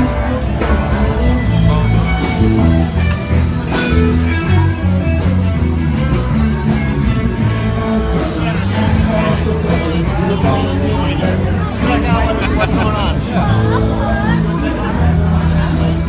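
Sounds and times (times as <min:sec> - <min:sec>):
heavy bass line: 0:00.0 - 0:16.0
live rock band playing: 0:00.0 - 0:16.0.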